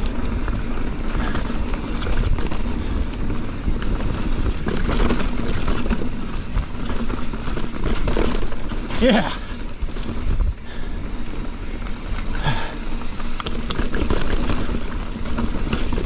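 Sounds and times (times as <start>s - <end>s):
bike knocks and rattles: 0.0s - 16.0s
tyres rolling on dirt trail: 0.0s - 16.0s
wind buffeting microphone: 0.0s - 16.0s.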